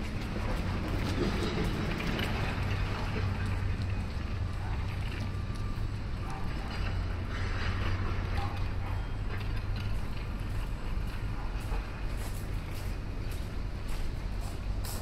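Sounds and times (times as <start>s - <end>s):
distant traffic: 0.0s - 15.0s
low engine rumble: 0.0s - 15.0s.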